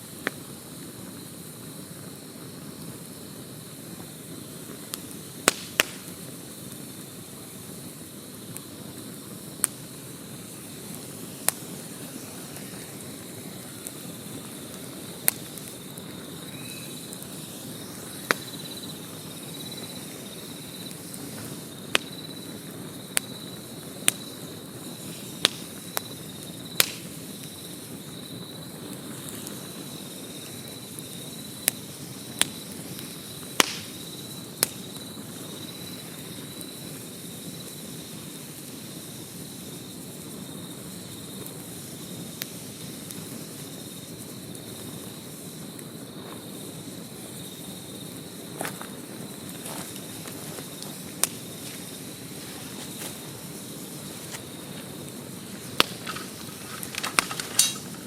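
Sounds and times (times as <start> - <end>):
campfire crackling and popping: 0.0 - 58.0
cricket trilling: 0.0 - 58.0
fire hissing: 0.0 - 58.0.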